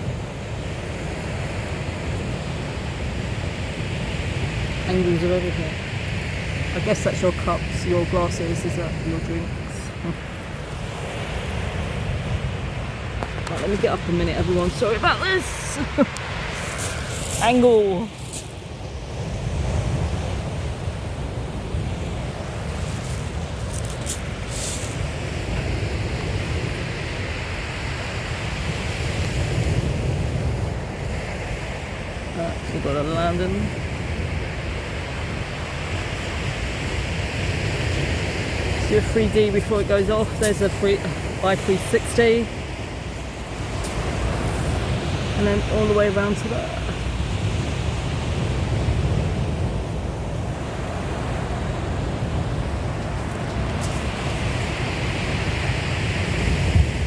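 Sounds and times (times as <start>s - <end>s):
surf washing on shingle: 0.0s - 57.0s
wind buffeting microphone: 0.0s - 57.0s.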